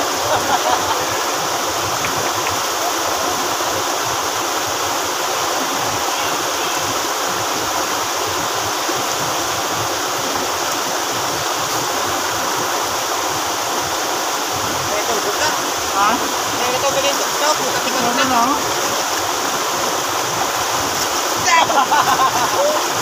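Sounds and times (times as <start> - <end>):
stream rushing over boulders: 0.0 - 23.0.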